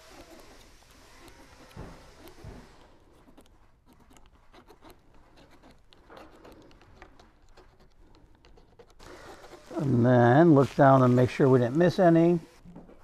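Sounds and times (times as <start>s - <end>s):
pen scratching through stencil: 0.0s - 10.9s.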